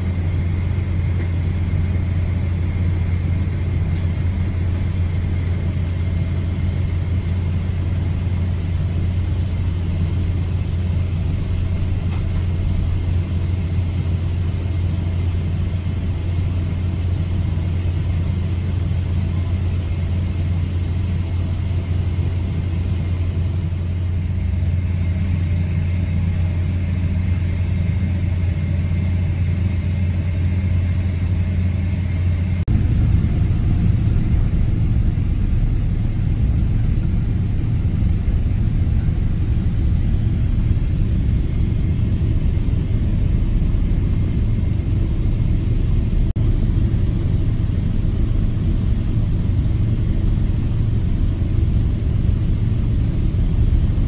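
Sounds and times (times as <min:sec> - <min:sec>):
aircraft engine low rumble: 0:00.0 - 0:54.0
thin steady whine: 0:00.0 - 0:54.0.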